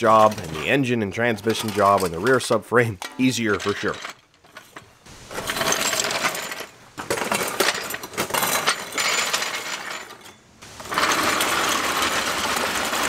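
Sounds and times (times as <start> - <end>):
dolly casters rolling over asphalt: 0.0 - 13.0.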